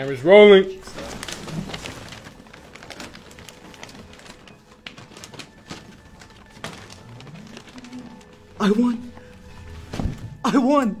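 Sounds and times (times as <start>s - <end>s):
envelopes being opened: 0.0s - 10.4s
paper rustling: 0.0s - 10.4s.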